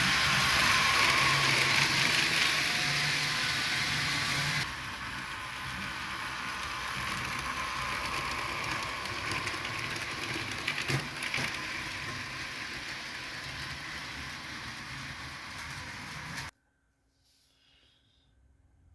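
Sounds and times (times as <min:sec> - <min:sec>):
model train running on track: 0:00.0 - 0:16.5.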